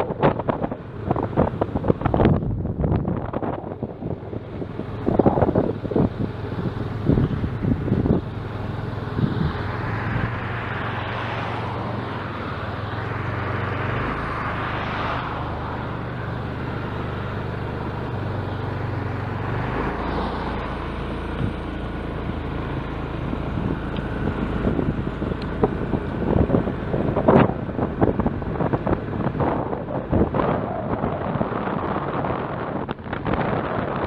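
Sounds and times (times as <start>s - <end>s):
road and wind noise: 0.0s - 34.0s
vehicle engine running: 0.0s - 34.0s.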